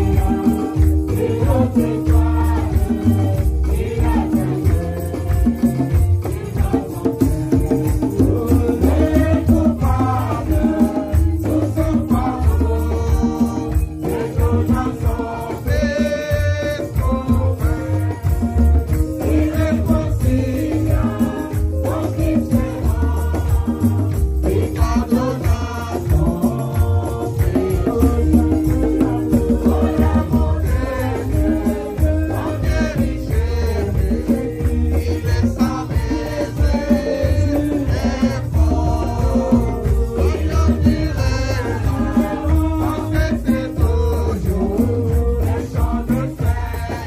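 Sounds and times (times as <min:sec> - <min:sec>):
shaker rattling: 0:00.0 - 0:47.0
women singing: 0:00.0 - 0:47.0.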